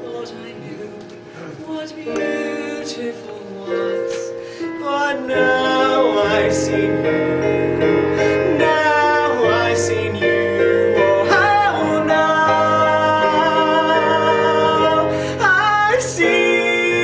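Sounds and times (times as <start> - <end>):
instrumental accompaniment: 0.0 - 17.0
voices singing long notes: 0.0 - 17.0.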